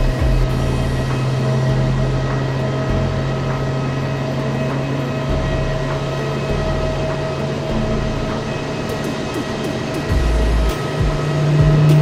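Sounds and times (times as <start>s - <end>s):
deep rumble: 0.0s - 9.0s, 10.1s - 12.0s
jet airliner hum and whine: 0.0s - 12.0s.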